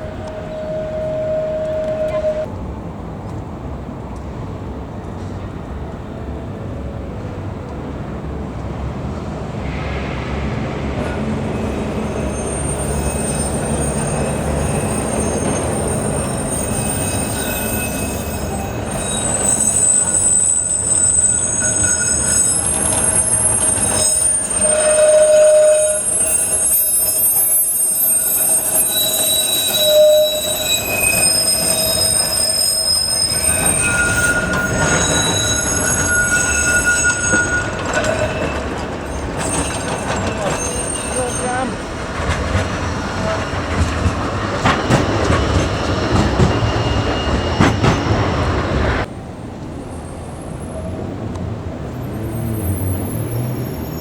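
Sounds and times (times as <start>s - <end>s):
tram wheels squealing: 0.0s - 2.6s, 8.9s - 54.0s
tram rumbling on track: 0.0s - 54.0s.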